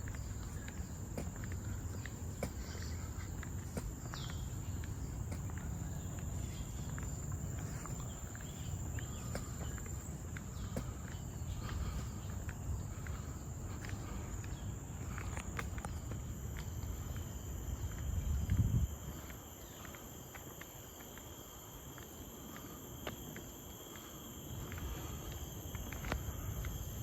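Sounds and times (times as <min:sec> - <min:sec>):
high-pitched insect drone: 0:00.0 - 0:27.0
walking footsteps: 0:00.0 - 0:27.0.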